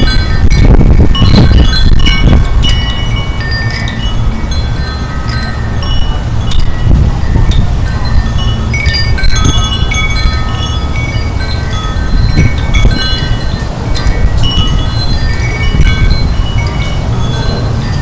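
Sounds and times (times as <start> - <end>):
wind chimes ringing: 0.0 - 18.0
wind rumble on microphone: 0.0 - 18.0.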